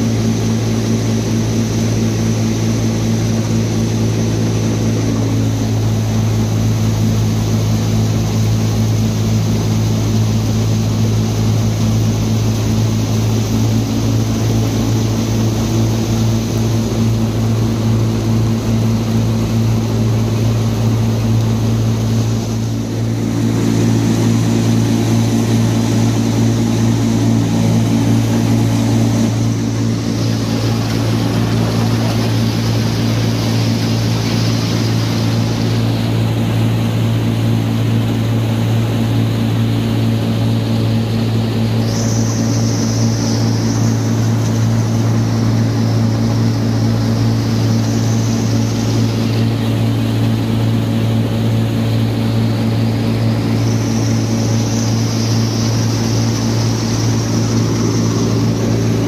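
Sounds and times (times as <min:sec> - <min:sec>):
thresher running with low hum: 0:00.0 - 0:59.0.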